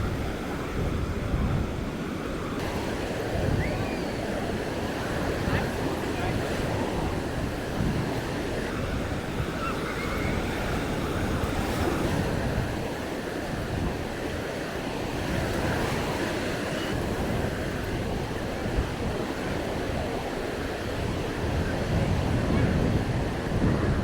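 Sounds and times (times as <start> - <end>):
waves washing onto sandy beach: 0.0 - 24.0
wind rumbling on microphone: 0.0 - 24.0.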